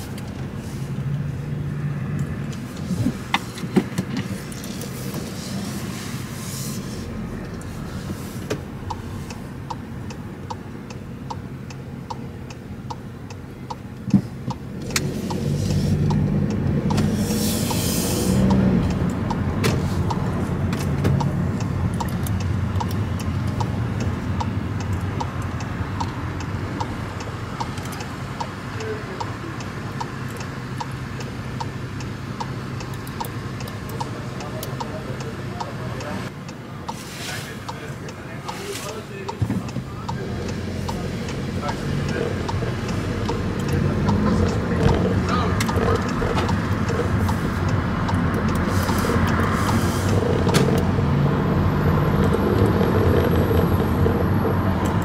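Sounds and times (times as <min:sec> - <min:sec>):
engine and road noise: 0:00.0 - 0:55.0
turn signal ticking: 0:00.0 - 0:55.0.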